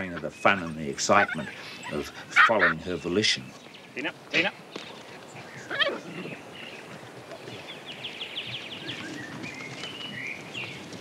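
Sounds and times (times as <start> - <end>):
birds chirping and calling: 0.0 - 11.0
outdoor background noise: 0.0 - 11.0.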